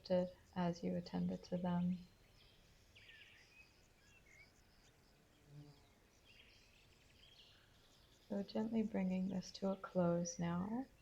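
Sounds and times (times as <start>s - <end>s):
low hiss: 0.0s - 11.0s.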